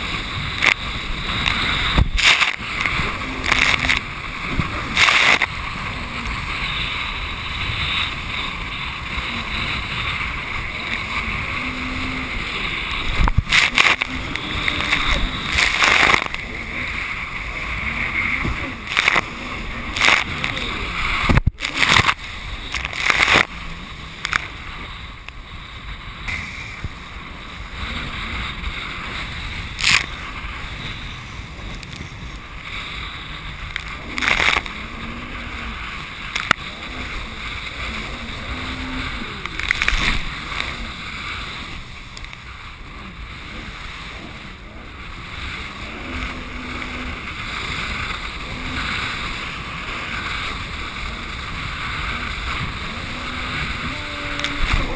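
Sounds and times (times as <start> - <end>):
hull slapping waves: 0.0 - 54.9
jet ski motor and water rush: 0.0 - 54.9.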